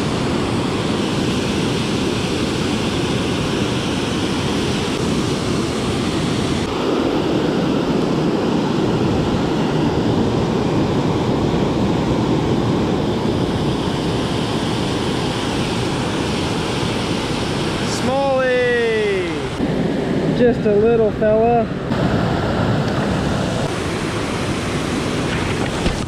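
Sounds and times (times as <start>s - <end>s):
water rushing over dam spillway: 0.0s - 19.6s, 22.0s - 26.0s.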